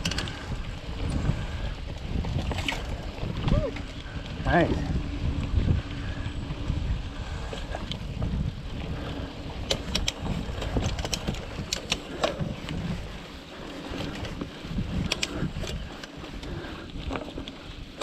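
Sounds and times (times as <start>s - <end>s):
bike clicks and rattles: 0.0s - 18.0s
wind rumbling on microphone: 0.0s - 18.0s.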